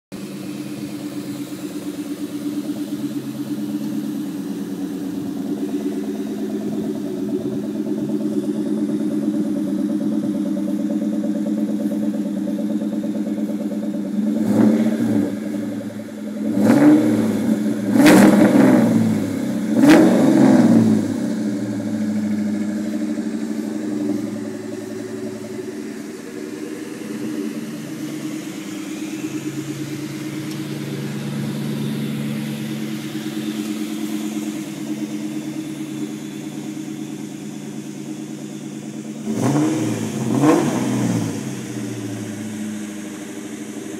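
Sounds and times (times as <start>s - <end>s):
car engine idling and revving: 0.1s - 43.9s.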